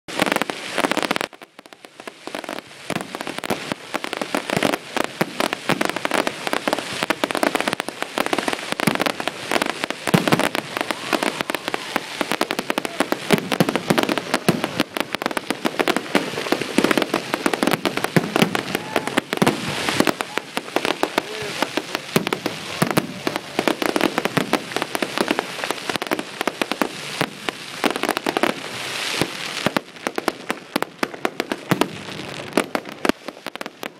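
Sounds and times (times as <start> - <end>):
fireworks bangs and crackling: 0.1 - 33.9.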